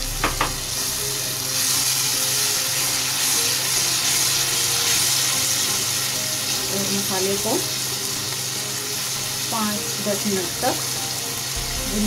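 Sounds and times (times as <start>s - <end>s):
sauce sizzling and bubbling: 0.0s - 12.0s.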